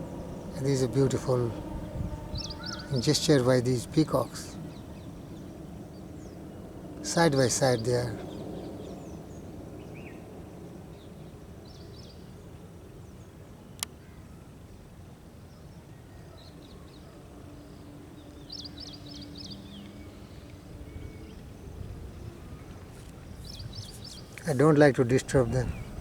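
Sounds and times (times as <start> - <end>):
small birds chirping: 0.0 - 14.2, 15.5 - 26.0
background hiss and rumble: 0.0 - 26.0.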